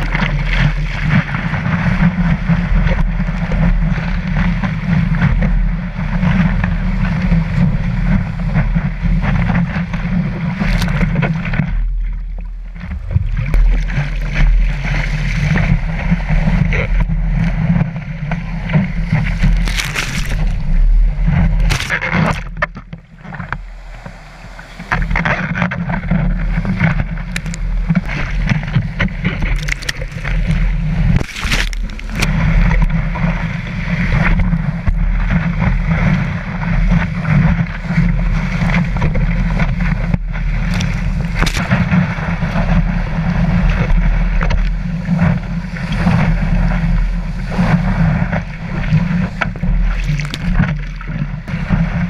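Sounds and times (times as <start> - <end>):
water rushing over surfboard: 0.0 - 52.0
water splashes: 7.0 - 52.0.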